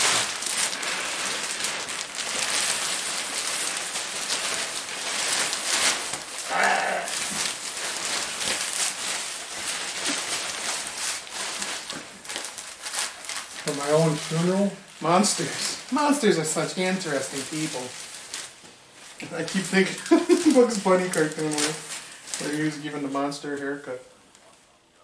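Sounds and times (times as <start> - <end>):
plastic cape rustling and crinkling: 0.0 - 24.5.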